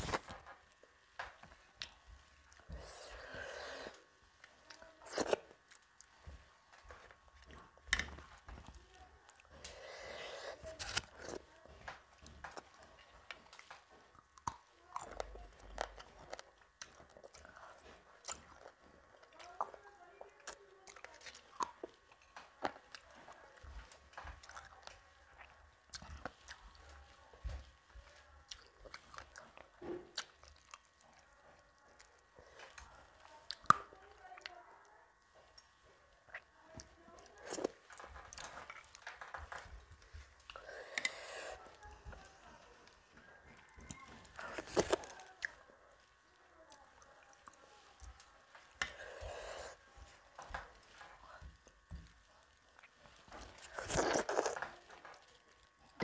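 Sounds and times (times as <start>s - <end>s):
wet chewing and mouth clicks: 0.0s - 34.6s, 35.2s - 45.7s, 46.7s - 56.0s.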